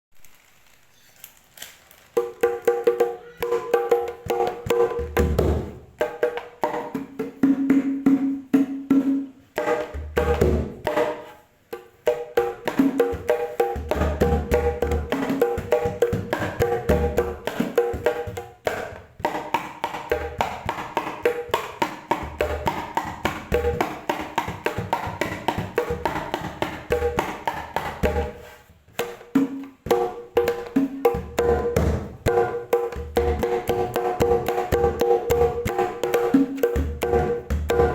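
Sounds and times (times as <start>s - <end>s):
hand drums played fast: 2.2s - 37.9s.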